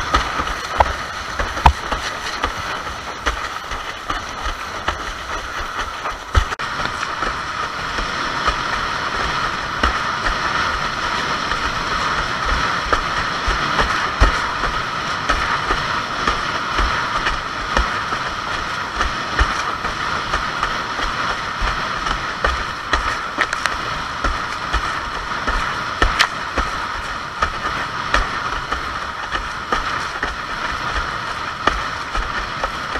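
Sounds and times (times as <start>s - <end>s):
water and wind rushing: 0.0s - 32.9s.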